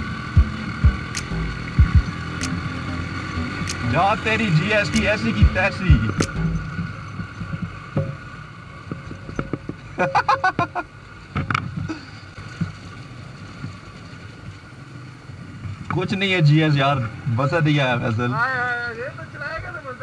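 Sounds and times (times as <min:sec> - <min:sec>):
motorcycle engine at low speed: 0:00.0 - 0:20.0.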